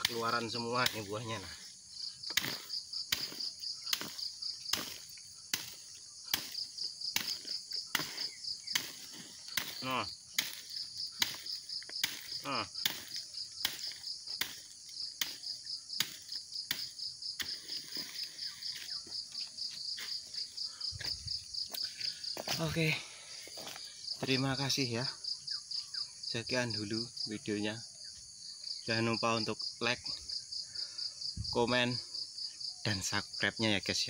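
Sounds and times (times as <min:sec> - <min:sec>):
insects chirping with pulsing trill: 0:00.0 - 0:34.0.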